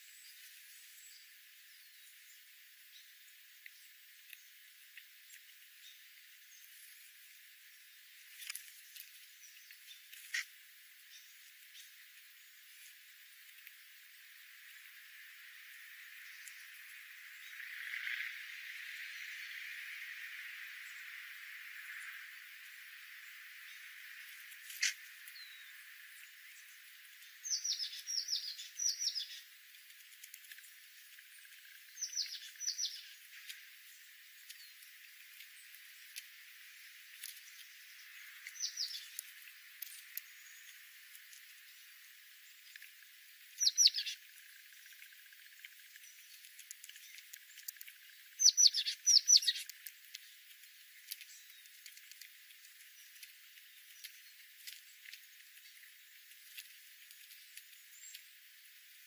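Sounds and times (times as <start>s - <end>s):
songbird chirping: 0.0s - 59.0s.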